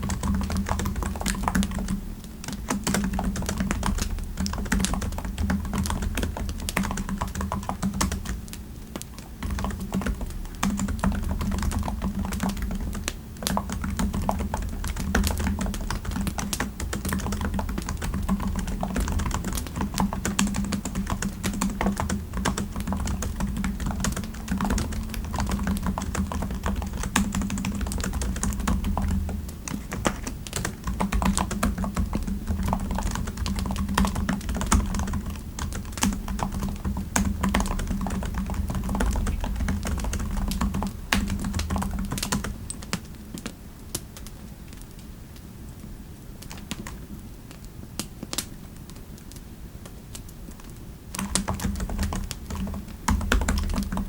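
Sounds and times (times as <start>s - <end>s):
typing on computer keyboard: 0.0s - 43.5s, 50.2s - 54.0s
low background hum: 0.0s - 54.0s.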